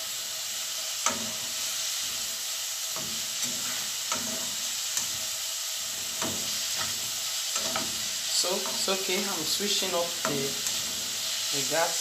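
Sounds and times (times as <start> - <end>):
vegetables sizzling in pan: 0.0 - 12.0
spatula scraping pan: 1.0 - 11.5.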